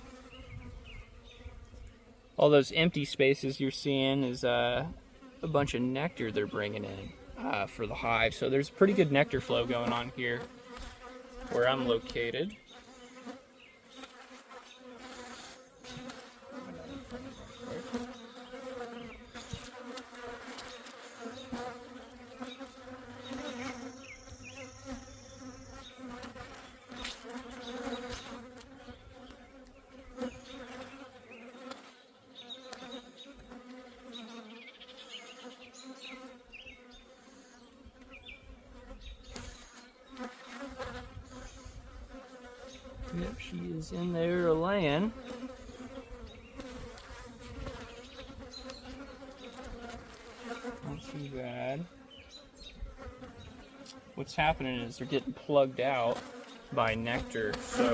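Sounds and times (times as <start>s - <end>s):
honeybees buzzing: 0.0s - 57.9s.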